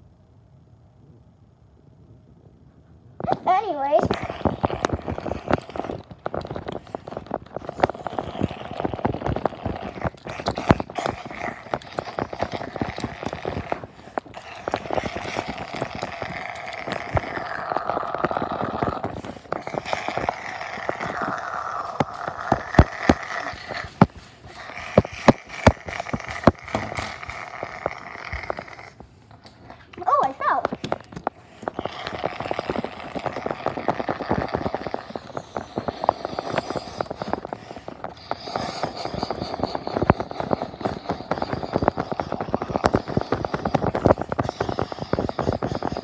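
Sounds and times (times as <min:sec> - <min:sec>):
continuous noisy rumble: 0:00.0 - 0:46.0.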